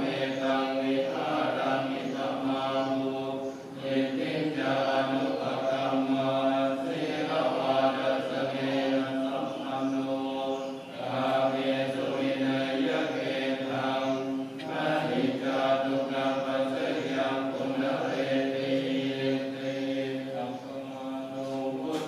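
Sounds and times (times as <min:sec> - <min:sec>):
voices chanting long tones: 0:00.0 - 0:22.0.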